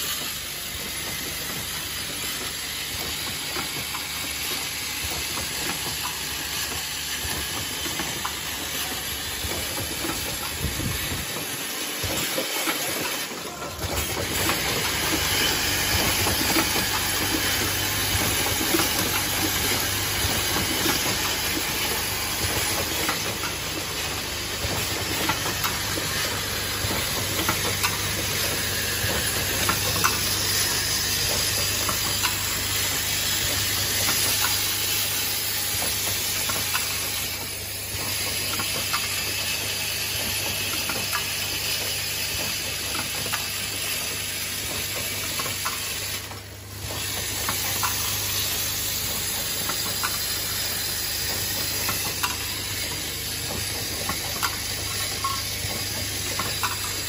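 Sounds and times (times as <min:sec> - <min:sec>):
machine clicks and clacks: 0:00.0 - 0:57.0
pneumatic hiss: 0:00.0 - 0:57.0.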